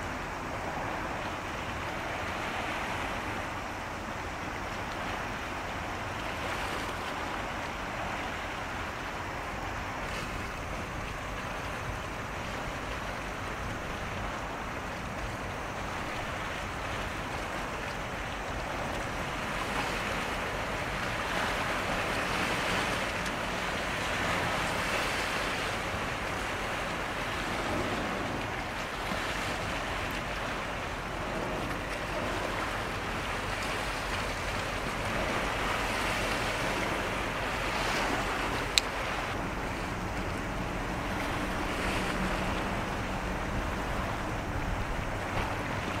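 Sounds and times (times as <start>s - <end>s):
sea water rushing: 0.0s - 46.0s.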